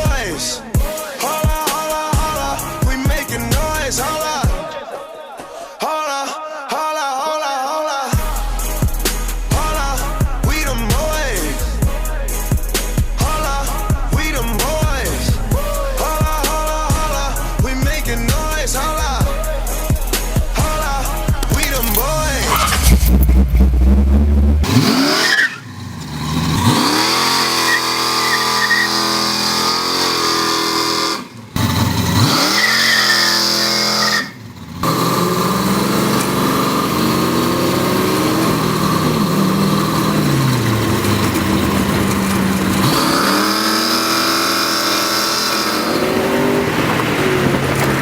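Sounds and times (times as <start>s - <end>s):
car engine revving: 8.2s - 48.0s.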